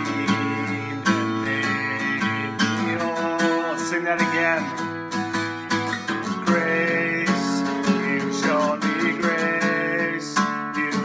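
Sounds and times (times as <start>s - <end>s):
acoustic guitar strumming: 0.0s - 11.0s
man singing: 0.0s - 11.0s.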